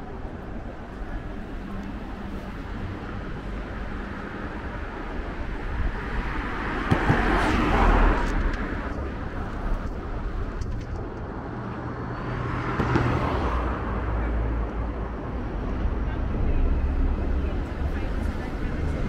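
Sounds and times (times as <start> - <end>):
low traffic rumble: 0.0 - 19.0
vehicles passing: 0.0 - 19.0.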